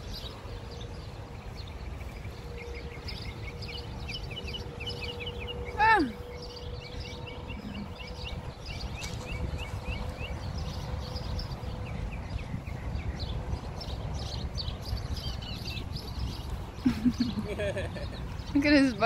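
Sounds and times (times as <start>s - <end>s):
small birds chirping: 0.0s - 19.0s
wind rumble on microphone: 0.0s - 19.0s.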